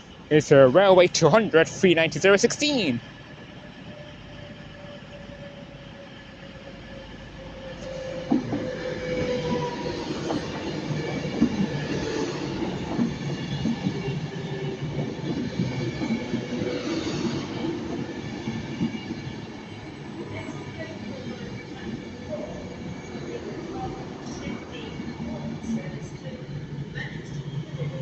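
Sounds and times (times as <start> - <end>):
electric train whine: 0.0 - 28.0.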